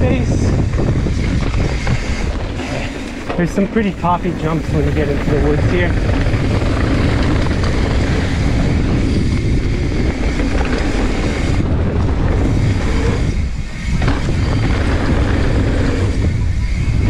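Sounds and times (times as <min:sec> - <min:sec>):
bike tyres rumbling on dirt: 0:00.0 - 0:17.0
wind rushing over microphone: 0:00.0 - 0:17.0.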